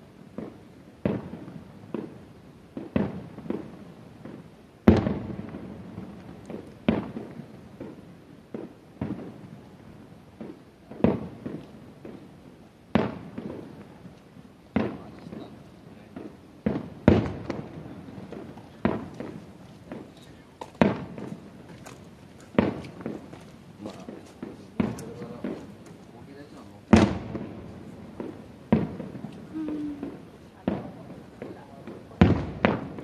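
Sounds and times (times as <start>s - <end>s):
distant fireworks booming: 0.0s - 33.0s.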